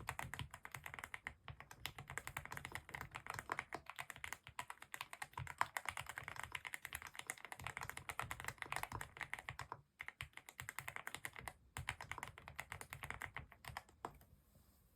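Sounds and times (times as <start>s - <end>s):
fast typing on mechanical keyboard: 0.0s - 14.2s.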